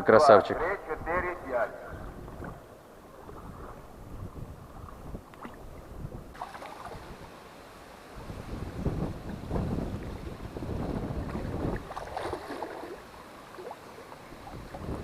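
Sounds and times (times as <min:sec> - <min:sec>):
gusty wind buffeting microphone: 0:00.5 - 0:07.4, 0:08.1 - 0:12.9, 0:14.2 - 0:15.0.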